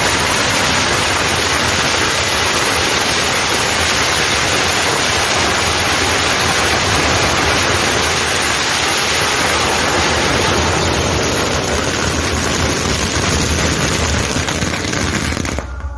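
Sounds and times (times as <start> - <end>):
firework fountain hissing: 0.0 - 15.9.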